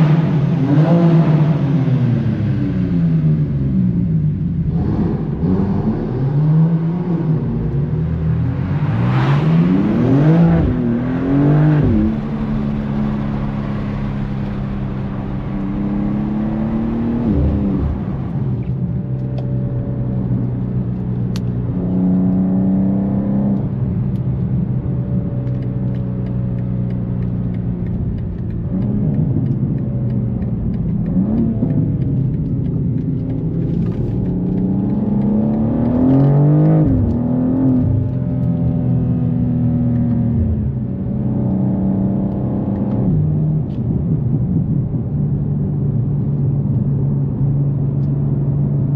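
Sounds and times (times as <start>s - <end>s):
car engine revving through gears: 0.0s - 44.8s.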